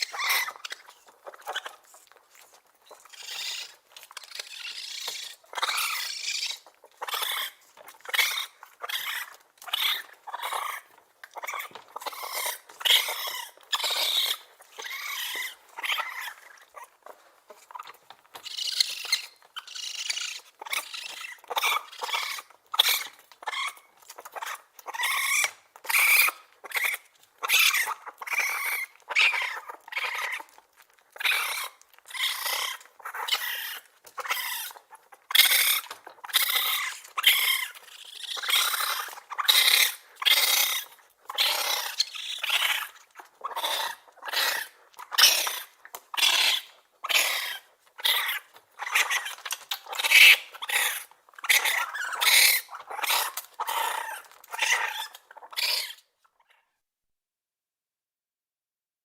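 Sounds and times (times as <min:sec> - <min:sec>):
raccoon chittering: 0:00.0 - 0:56.6.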